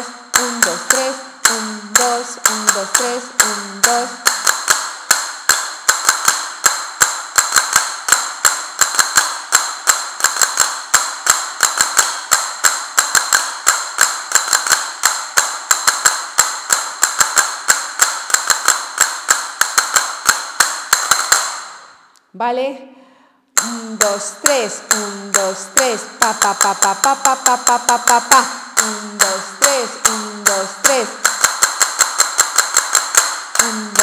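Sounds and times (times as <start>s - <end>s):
castanets clicking: 0.0s - 22.1s, 23.6s - 34.0s.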